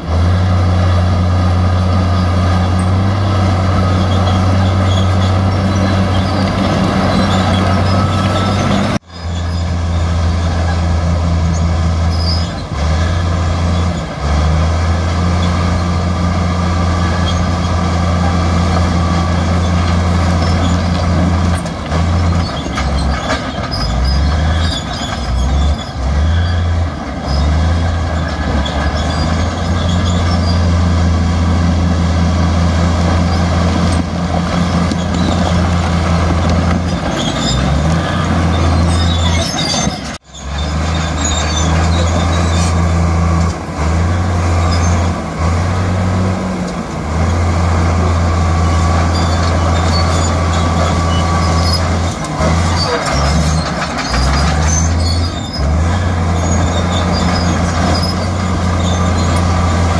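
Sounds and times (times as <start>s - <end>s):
diesel engine drone: 0.0s - 59.9s.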